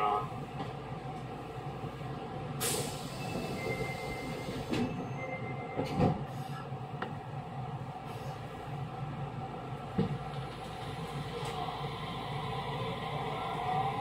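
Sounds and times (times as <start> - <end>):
electric train interior hum: 0.0 - 14.0.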